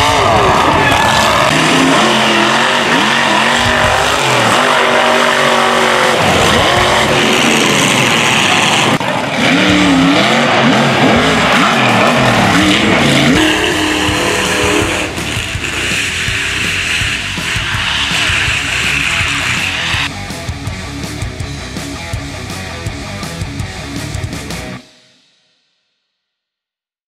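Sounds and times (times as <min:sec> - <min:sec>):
truck engines revving hard: 0:00.0 - 0:24.8.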